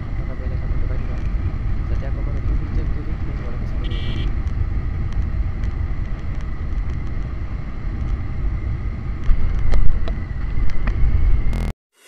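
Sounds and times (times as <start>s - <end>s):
wind and road rumble: 0.0s - 11.7s.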